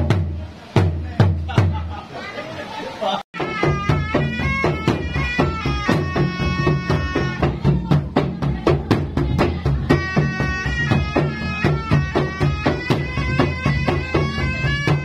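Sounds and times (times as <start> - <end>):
rapid drumming: 0.0 - 2.0, 3.4 - 15.0
reed shawm melody: 0.0 - 15.0.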